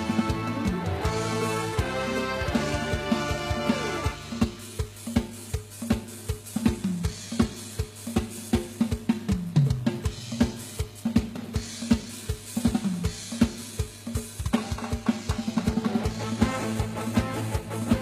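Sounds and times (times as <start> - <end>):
fast drum kit beat: 0.0 - 18.0
instrumental band music: 0.0 - 18.0.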